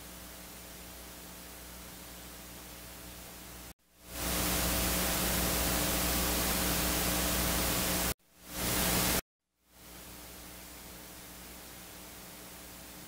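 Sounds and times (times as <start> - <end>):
electronic hiss: 0.0 - 13.0
faint mains hum: 0.0 - 13.0.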